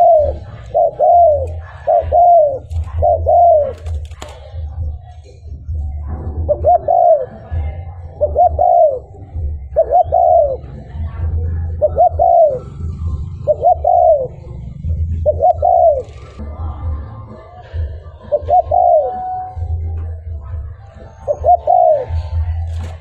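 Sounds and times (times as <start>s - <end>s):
dove cooing: 0.0s - 16.8s, 17.4s - 23.0s
steady low rumble: 0.0s - 18.6s.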